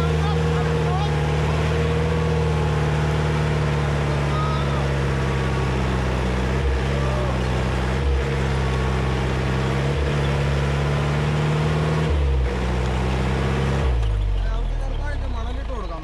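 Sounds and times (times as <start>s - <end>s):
jeep engine running under load: 0.0s - 16.0s.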